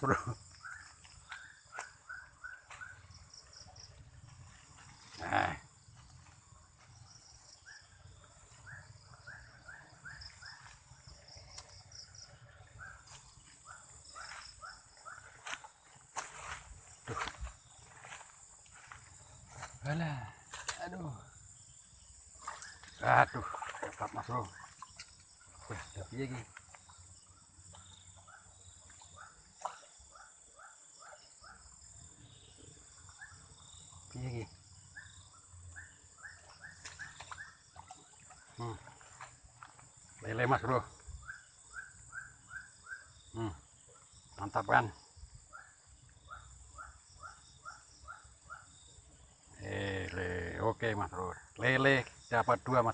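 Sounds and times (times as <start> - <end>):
cricket-like trill: 0.0 - 52.9.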